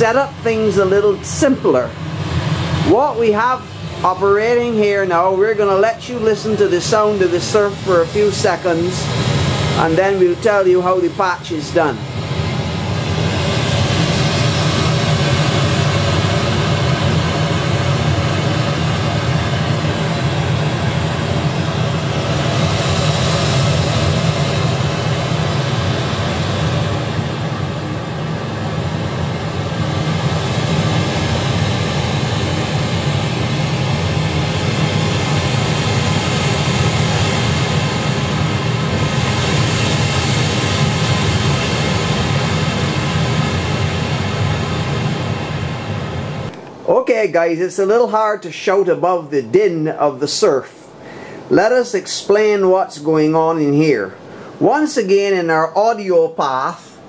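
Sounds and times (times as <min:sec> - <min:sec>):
synthesized ocean surf: 0:00.0 - 0:57.0.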